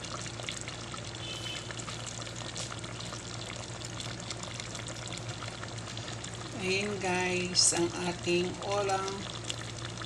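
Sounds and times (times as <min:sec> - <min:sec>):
low steady hum: 0:00.0 - 0:10.0
sauce bubbling in a pot: 0:00.0 - 0:10.0.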